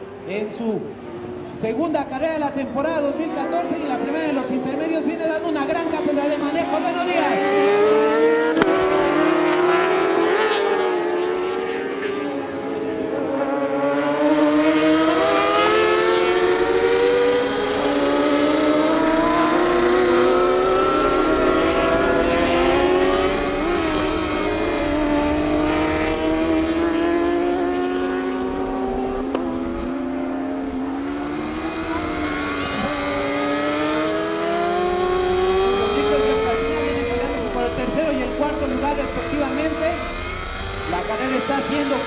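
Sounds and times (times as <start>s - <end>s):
racing motorcycle engine revving: 2.4s - 42.0s.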